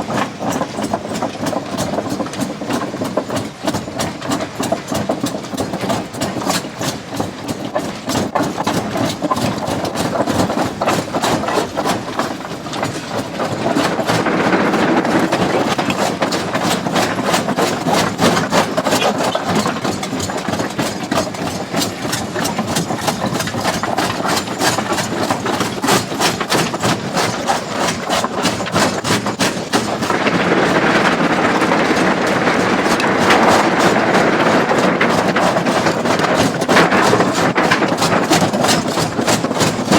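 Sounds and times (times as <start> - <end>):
rocks clattering and knocking: 0.0 - 39.9.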